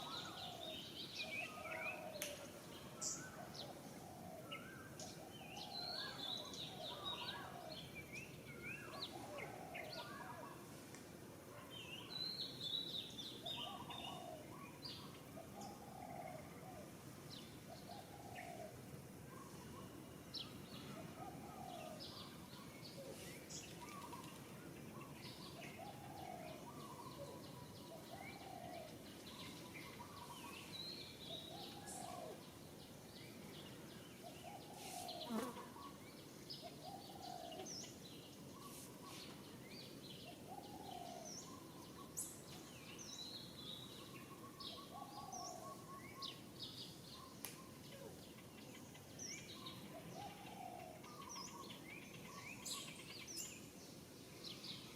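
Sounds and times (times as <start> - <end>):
faint steady hiss: 0.0 - 54.9.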